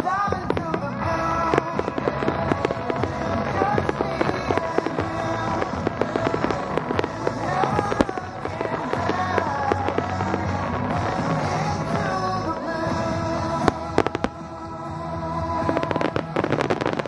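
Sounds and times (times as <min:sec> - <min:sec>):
firework bangs and crackles: 0:00.0 - 0:17.0
music soundtrack: 0:00.0 - 0:17.0.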